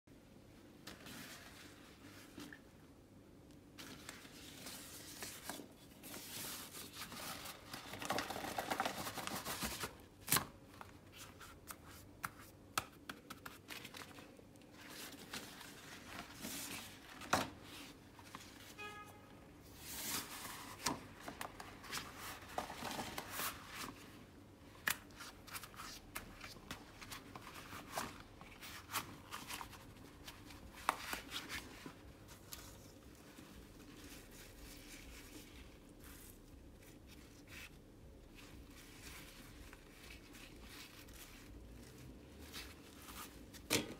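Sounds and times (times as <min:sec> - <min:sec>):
rubber gloves rustling: 0:00.5 - 0:43.9.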